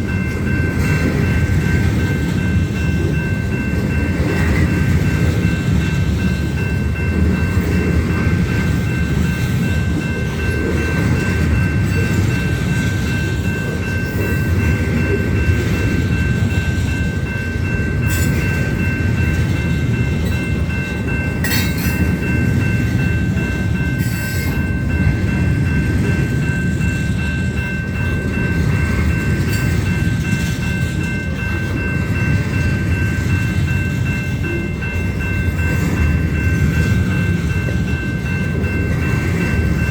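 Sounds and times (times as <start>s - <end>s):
railcars rolling past: 0.0s - 39.9s.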